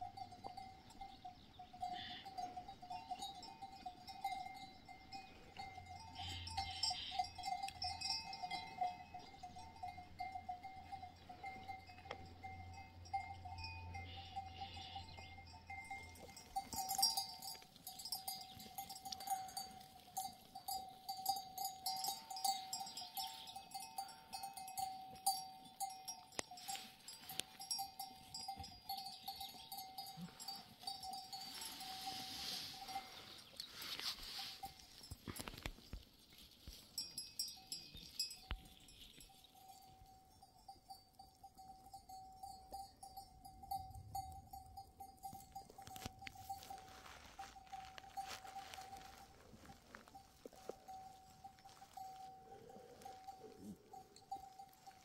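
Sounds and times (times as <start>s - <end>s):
livestock bells jingling: 0.0s - 55.0s.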